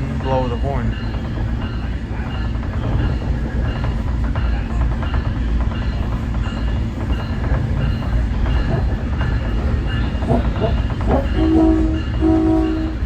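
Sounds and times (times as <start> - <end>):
train rumbling along track: 0.0 - 13.0
train warning bell ringing: 0.0 - 13.0.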